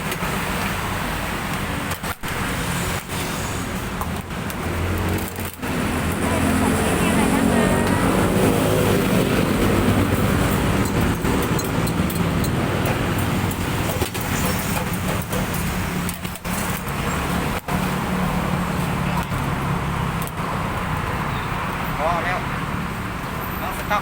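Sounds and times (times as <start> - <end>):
engine and traffic rumble: 0.0 - 24.0.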